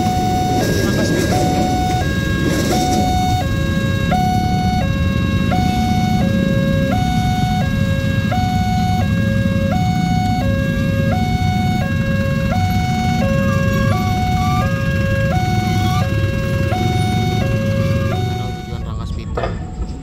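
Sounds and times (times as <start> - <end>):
level crossing two-tone alarm: 0.0 - 20.0
motorcycle and truck engines rumbling: 0.0 - 20.0.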